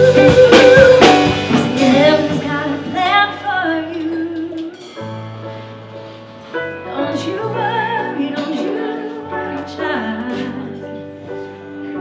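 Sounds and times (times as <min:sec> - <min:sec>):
live band instrumental: 0:00.0 - 0:12.0.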